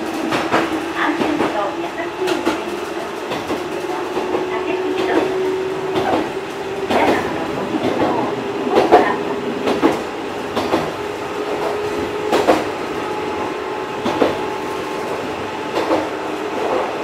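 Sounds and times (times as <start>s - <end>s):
tram interior hum: 0.0s - 17.0s.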